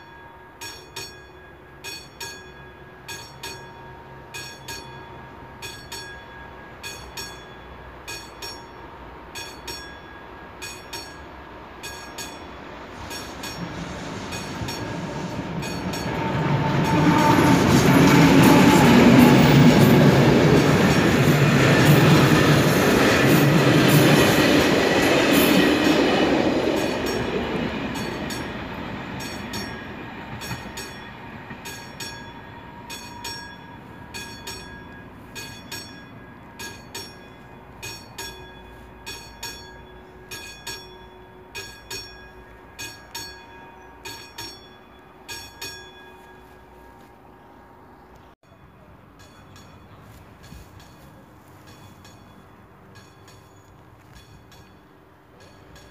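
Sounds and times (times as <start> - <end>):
crossing signal bell ringing: 0.0 - 55.9
passenger train passing: 0.0 - 55.9.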